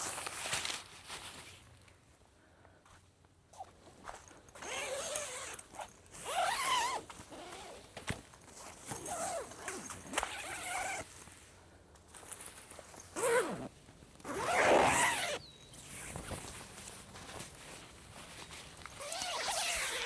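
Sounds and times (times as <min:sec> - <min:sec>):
rustling: 0:00.0 - 0:01.8, 0:03.9 - 0:20.0.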